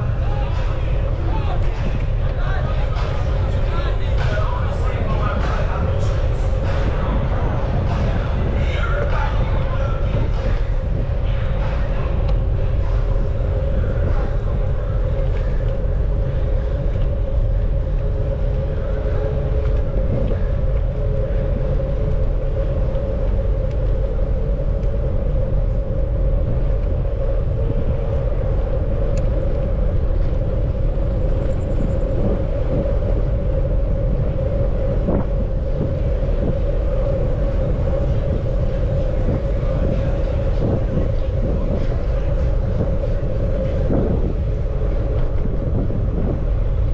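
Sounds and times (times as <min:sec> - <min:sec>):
bicycle rolling and wind noise: 0:00.0 - 0:46.9
mid-pitched hum: 0:00.0 - 0:46.9.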